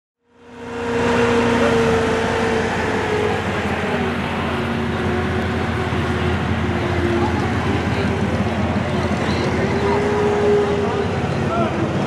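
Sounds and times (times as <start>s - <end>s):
car engines droning: 0.2s - 12.0s.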